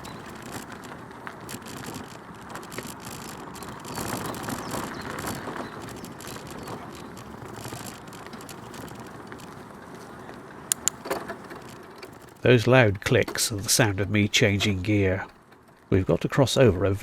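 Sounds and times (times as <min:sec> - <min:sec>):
bicycle tyre and road noise: 0:00.0 - 0:17.0
light rattle from bike: 0:00.0 - 0:17.0.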